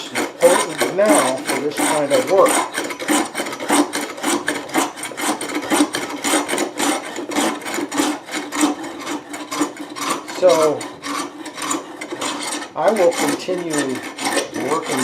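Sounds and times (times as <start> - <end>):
plane rasping across wood: 0.0 - 15.0.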